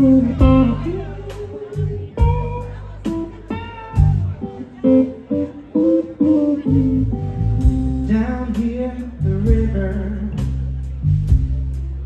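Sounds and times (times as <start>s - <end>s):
electric guitar: 0.0s - 11.6s
live blues band playing: 0.0s - 12.0s.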